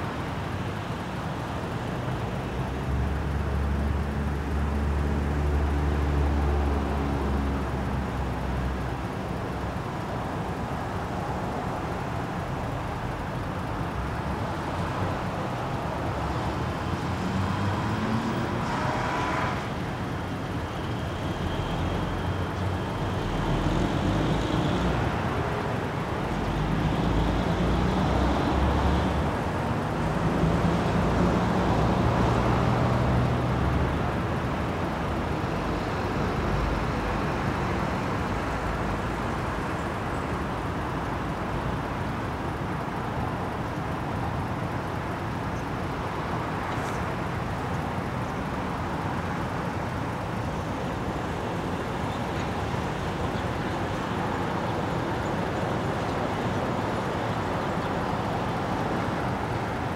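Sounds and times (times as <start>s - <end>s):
distant traffic hum: 0.0s - 59.9s.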